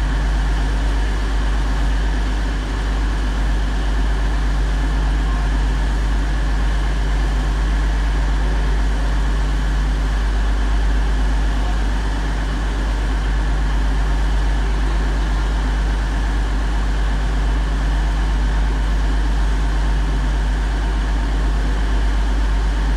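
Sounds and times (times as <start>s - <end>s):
diesel train engine idling: 0.0s - 22.9s.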